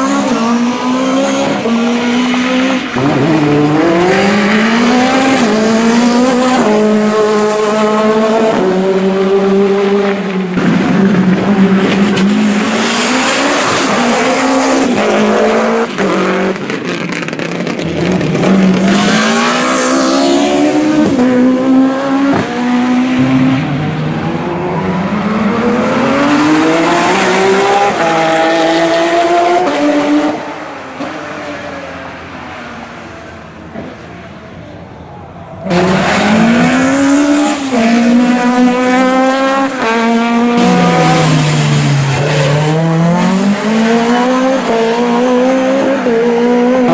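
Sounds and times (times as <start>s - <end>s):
race car engine revving: 0.0s - 31.7s, 35.6s - 46.9s.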